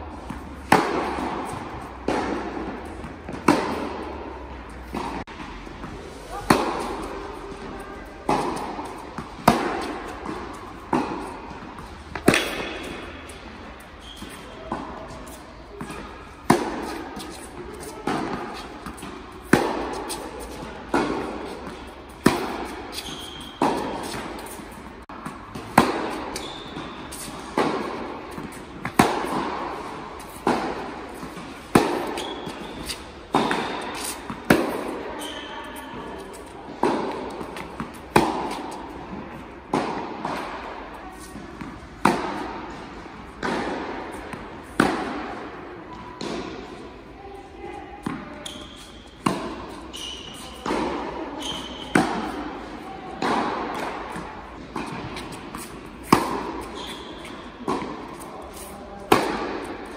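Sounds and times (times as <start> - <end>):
tennis racket striking ball: 0.1 - 46.8, 48.0 - 59.9.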